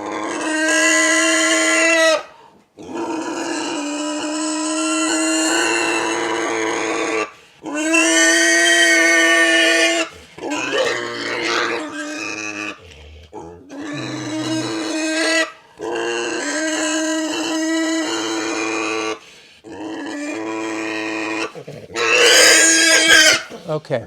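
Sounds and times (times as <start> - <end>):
pig grunt: 0.0 - 23.8
pig squealing: 0.0 - 23.8.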